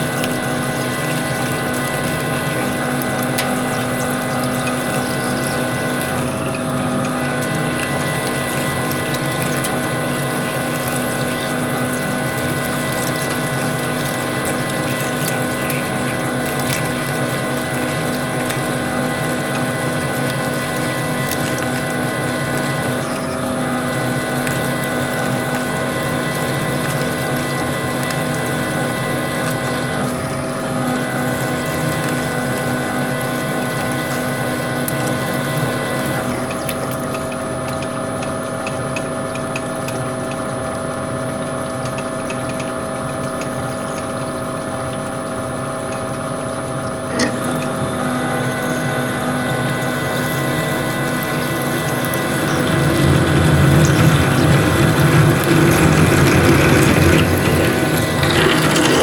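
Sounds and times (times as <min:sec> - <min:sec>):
metal lathe whining: 0:00.0 - 0:36.7, 0:47.1 - 0:59.0.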